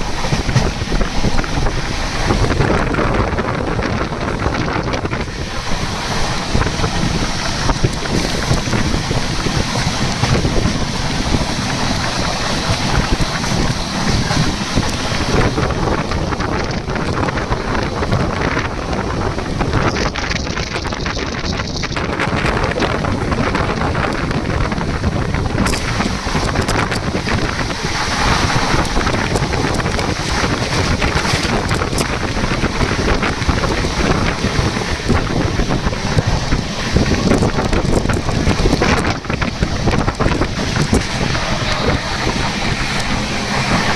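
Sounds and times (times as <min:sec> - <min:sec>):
moving train rumble: 0:00.0 - 0:43.9
wind buffeting microphone: 0:00.0 - 0:43.9.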